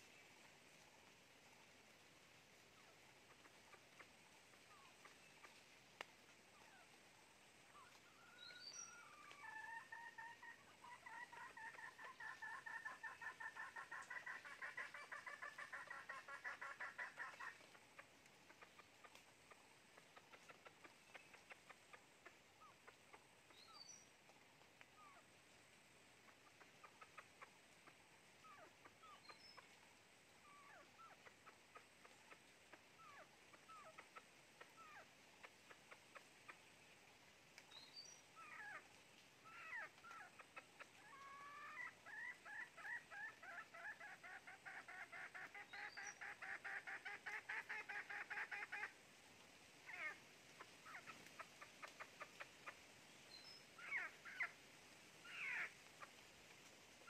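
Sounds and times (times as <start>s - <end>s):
junglefowl clucking: 2.7s - 7.0s, 7.7s - 24.1s, 26.2s - 37.0s, 37.6s - 49.0s, 49.8s - 56.3s.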